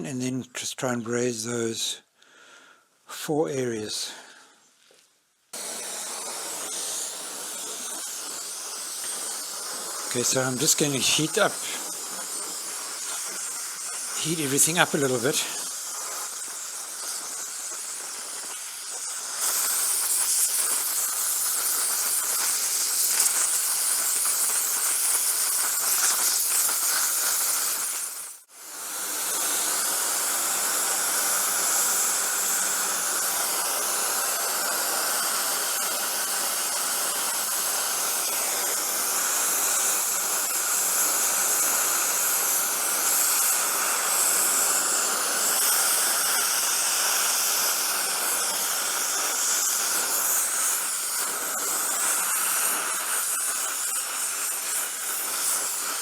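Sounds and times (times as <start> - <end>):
torch flame hissing: 5.5 - 56.0.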